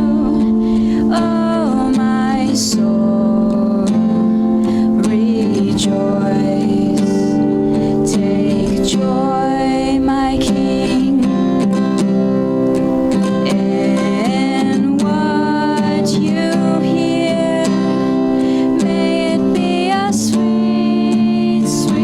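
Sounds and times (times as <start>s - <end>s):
acoustic guitar strumming: 0.0s - 22.0s
person singing: 0.0s - 22.0s.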